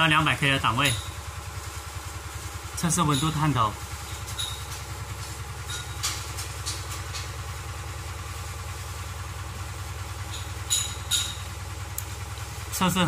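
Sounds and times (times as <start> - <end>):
low pulsing motor hum: 0.0 - 13.0.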